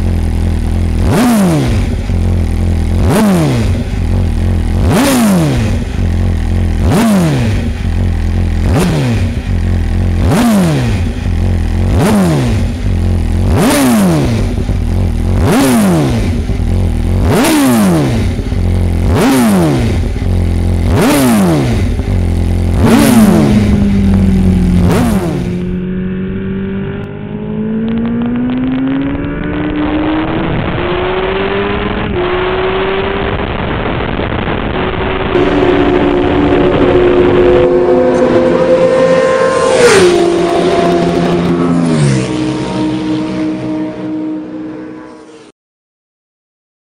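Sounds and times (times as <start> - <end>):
motorcycle engine revving: 0.0 - 45.5.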